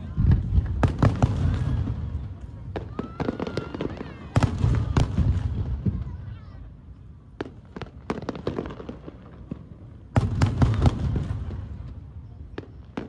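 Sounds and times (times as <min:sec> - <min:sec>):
fireworks crackling pops: 0:00.0 - 0:06.3, 0:07.3 - 0:13.0.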